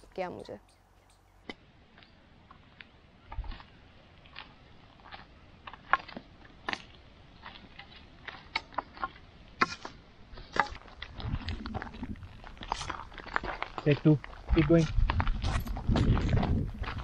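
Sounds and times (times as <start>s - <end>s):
footsteps on gravel: 1.4s - 17.0s
walking stick clicking on stone: 1.4s - 17.0s.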